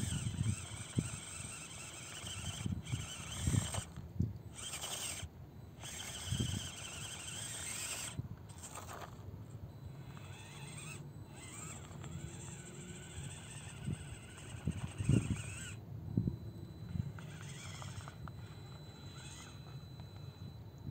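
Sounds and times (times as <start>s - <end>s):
electric motor and gears whining: 0.0s - 20.9s.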